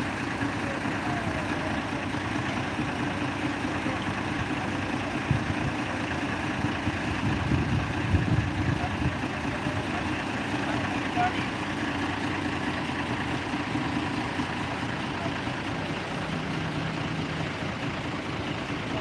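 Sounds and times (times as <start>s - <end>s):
heavy truck engines running: 0.0s - 19.0s.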